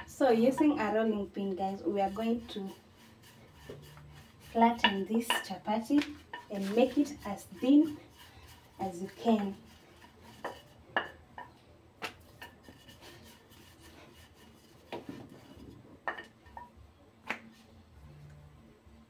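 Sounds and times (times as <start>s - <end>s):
rolling pin rubbing dough: 0.1s - 11.2s, 12.0s - 16.2s.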